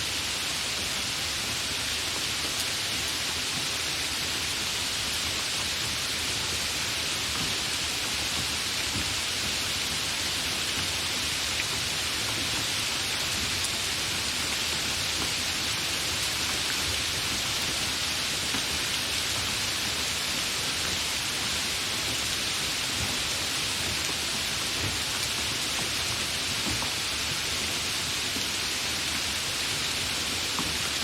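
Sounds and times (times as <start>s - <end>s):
light rain hissing: 0.0s - 31.0s.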